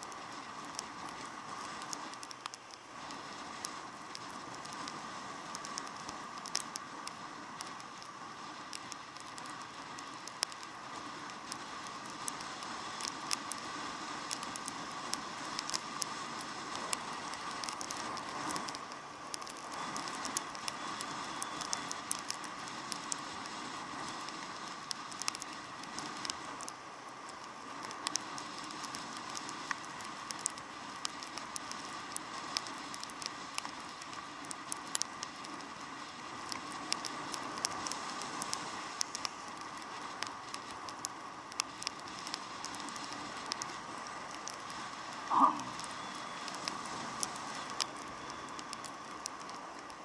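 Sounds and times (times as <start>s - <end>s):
raindrops pattering on camera: 0.0s - 50.0s.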